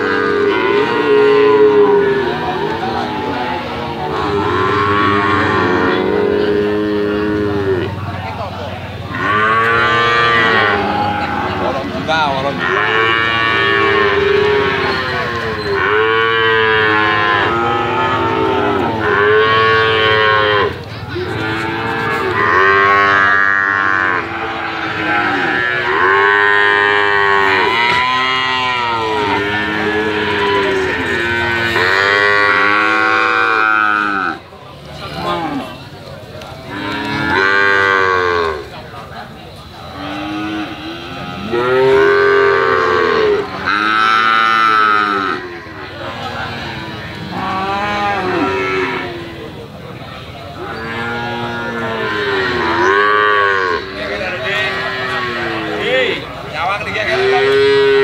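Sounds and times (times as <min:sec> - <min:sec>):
calves mooing: 0:00.0 - 0:08.0, 0:09.1 - 0:34.4, 0:36.6 - 0:38.8, 0:39.8 - 0:49.6, 0:50.5 - 0:58.0.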